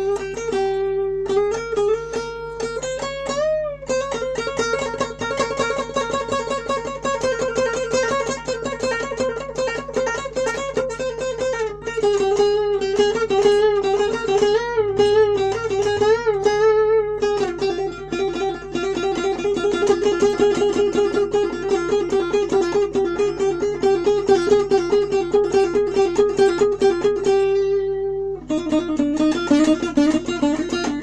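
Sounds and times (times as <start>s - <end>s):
solo guitar playing: 0.0s - 31.0s.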